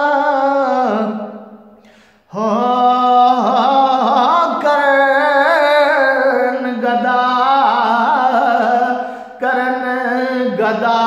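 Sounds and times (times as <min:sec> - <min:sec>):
man singing unaccompanied: 0:00.0 - 0:01.6, 0:02.3 - 0:11.0.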